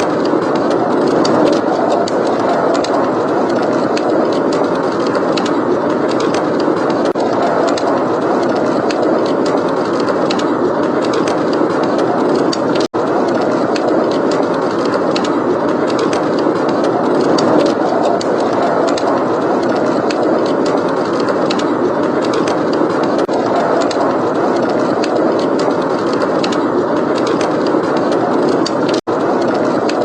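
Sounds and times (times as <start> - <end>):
blizzard wind blowing: 0.0 - 30.0
wood fire crackling: 0.0 - 30.0.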